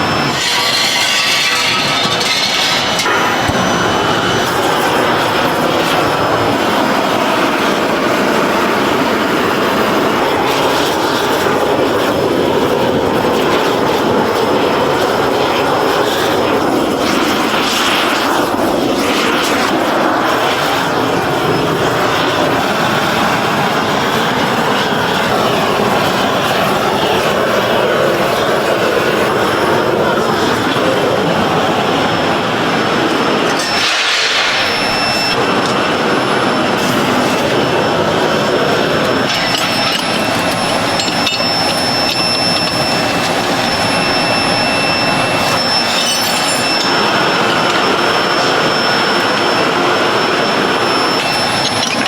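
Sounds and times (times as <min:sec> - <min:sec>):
industrial machine noise: 0:00.0 - 0:52.0.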